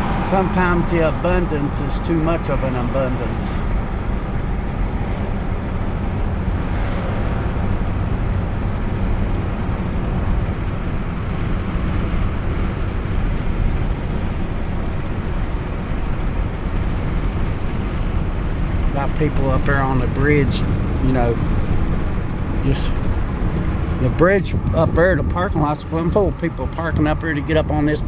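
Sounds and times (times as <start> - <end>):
vehicle cabin road rumble: 0.0 - 28.0.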